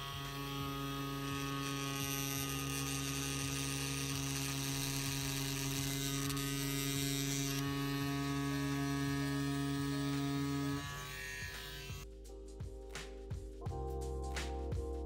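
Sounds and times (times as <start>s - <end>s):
tattoo pen motor buzzing: 0.0s - 12.1s.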